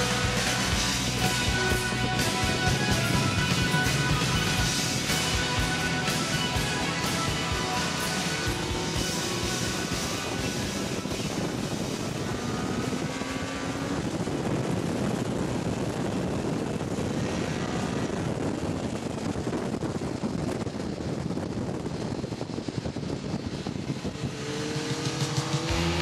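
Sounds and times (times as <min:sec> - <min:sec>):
motorcycle engine accelerating: 0:00.0 - 0:26.0
wind rush: 0:00.0 - 0:26.0.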